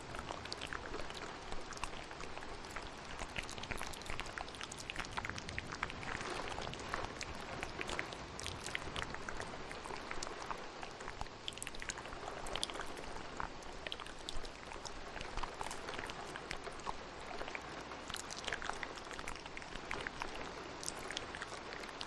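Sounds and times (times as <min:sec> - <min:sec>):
steady rain: 0:00.0 - 0:22.0
wet mouth clicks and smacks: 0:00.0 - 0:22.0.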